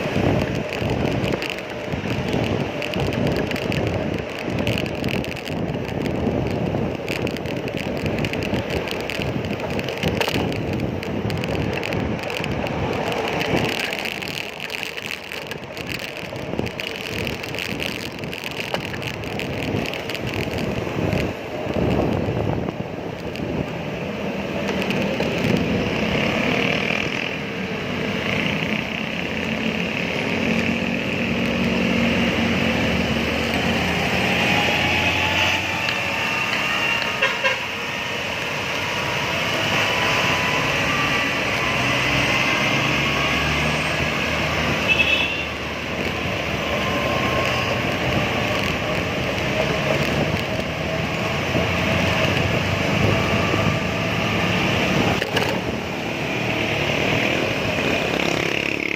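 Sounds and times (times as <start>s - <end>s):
wind buffeting microphone: 0.0s - 58.8s
passing motor vehicles: 0.0s - 58.9s.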